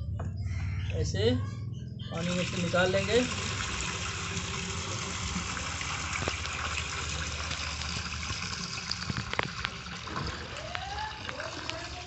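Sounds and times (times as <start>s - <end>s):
water pouring and splashing: 2.2s - 12.0s.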